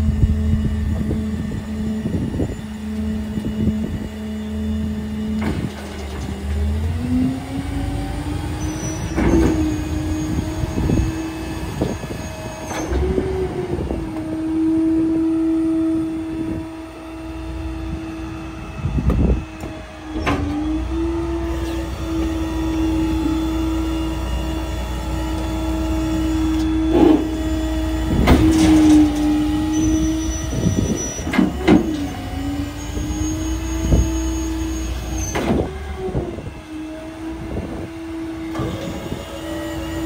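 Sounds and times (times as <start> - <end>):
garbage truck engine and hydraulics: 0.0 - 40.0.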